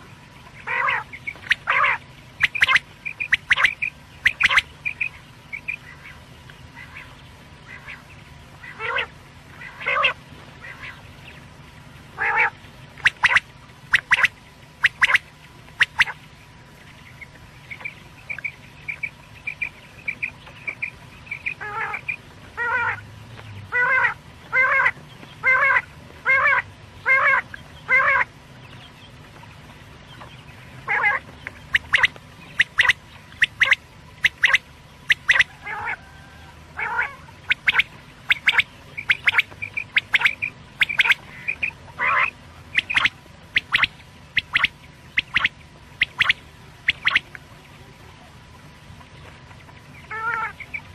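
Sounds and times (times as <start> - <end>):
quail calling: 0.5 - 11.5, 12.1 - 16.2, 17.0 - 23.0, 23.7 - 29.0, 30.1 - 47.3, 50.0 - 50.9.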